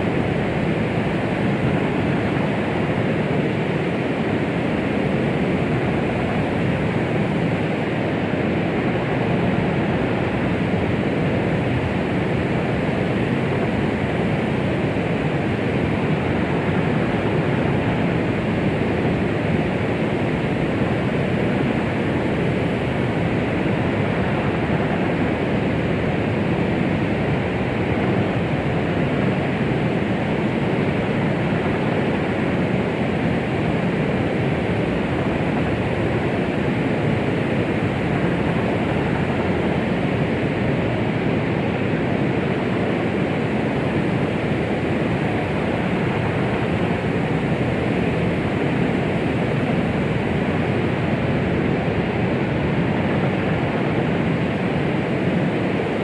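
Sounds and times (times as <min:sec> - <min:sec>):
steady white noise: 0:00.0 - 0:56.0.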